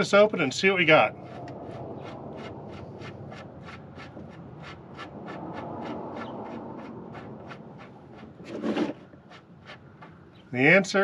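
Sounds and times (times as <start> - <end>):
scratchy rubbing and handling: 1.2 - 10.2.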